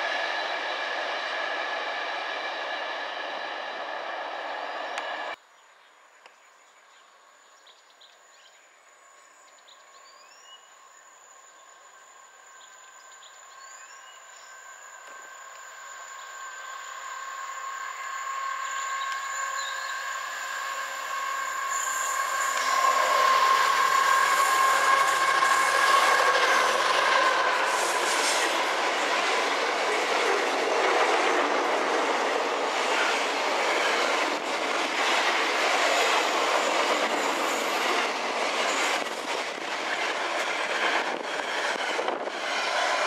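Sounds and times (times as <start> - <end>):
diesel locomotive approaching: 0.0 - 5.4, 9.1 - 43.0.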